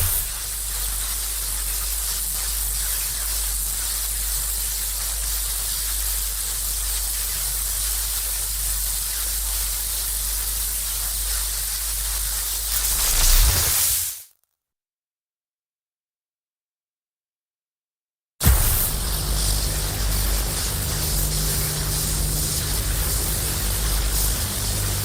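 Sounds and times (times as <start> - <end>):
electric hiss and crackle: 0.0 - 14.4, 18.4 - 25.0.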